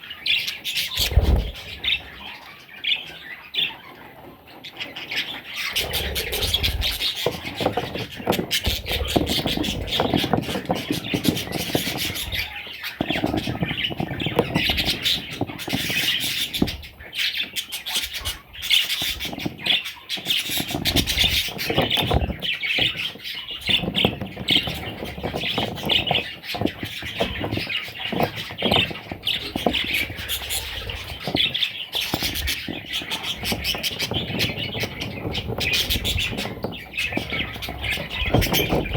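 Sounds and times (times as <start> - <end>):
parrot chicks squawking: 0.0 - 38.9
bumps and rustling: 0.6 - 2.3, 5.7 - 38.9.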